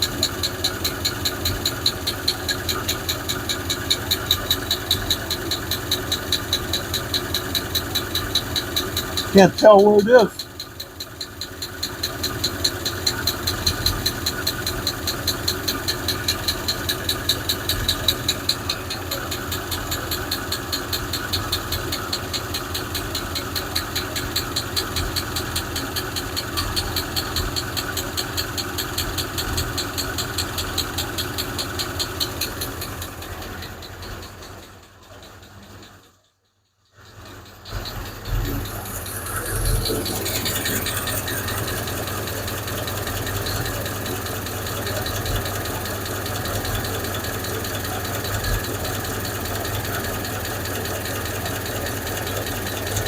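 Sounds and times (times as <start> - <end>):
fast regular ticking clatter: 0.0 - 36.2, 36.8 - 53.0
engine idling: 0.0 - 53.0.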